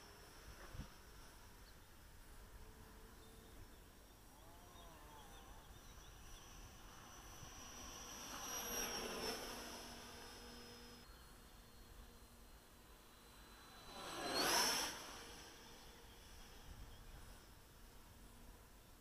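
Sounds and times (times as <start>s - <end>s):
high-pitched ducted fan whine: 0.0s - 19.0s.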